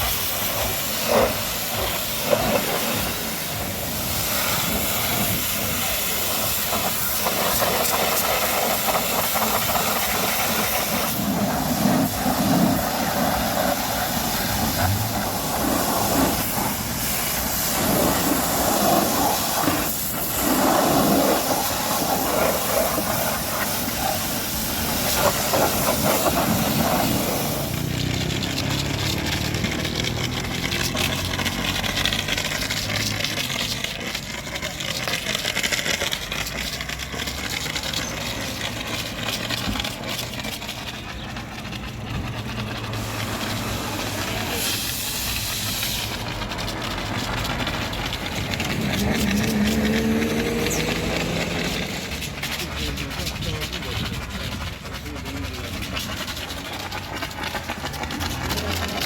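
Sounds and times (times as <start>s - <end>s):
high-pressure water spray hissing: 0.0s - 59.0s.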